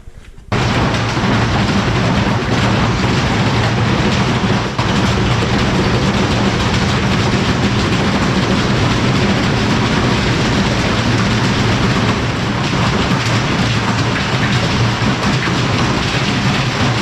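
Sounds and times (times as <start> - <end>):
washing machine rattling in spin: 0.5 - 17.0.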